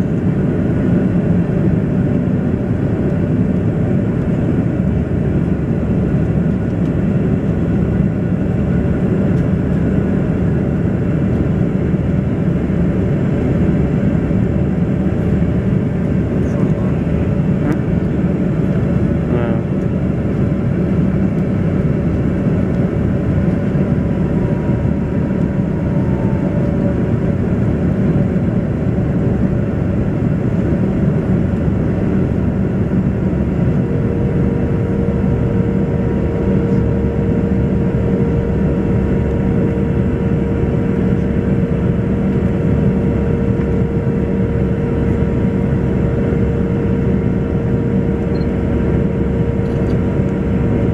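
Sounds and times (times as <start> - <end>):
airliner cabin engine noise: 0.0 - 50.9
steady hum: 0.0 - 50.9.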